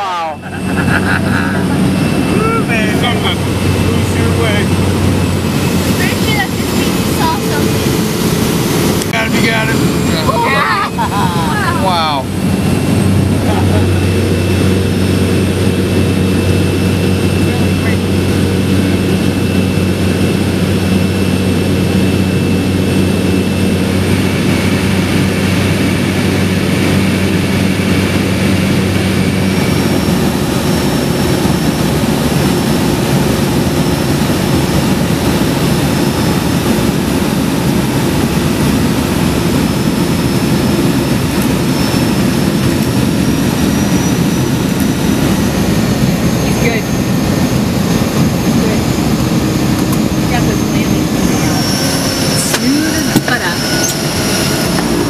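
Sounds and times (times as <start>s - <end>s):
floatplane engine and propeller: 0.0s - 55.0s.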